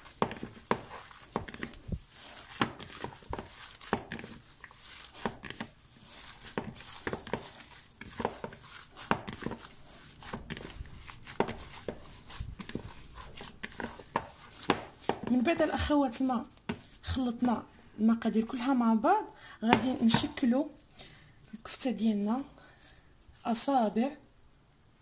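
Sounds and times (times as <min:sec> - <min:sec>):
hands kneading raw meat: 0:00.0 - 0:17.6, 0:19.6 - 0:24.2.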